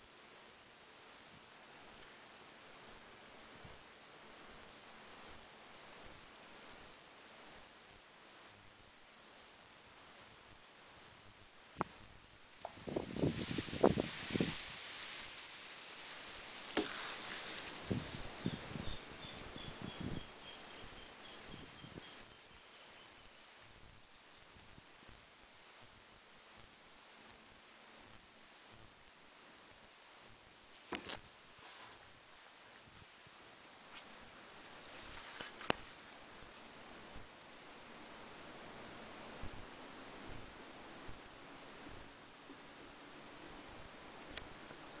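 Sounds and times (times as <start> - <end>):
insects chorus: 0.0 - 45.0.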